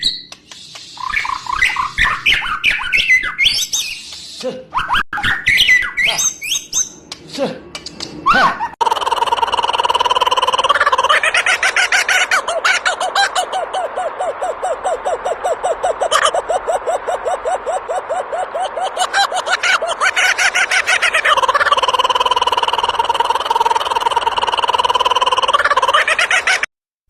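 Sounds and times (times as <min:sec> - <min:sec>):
bird calling: 0:00.0 - 0:26.6.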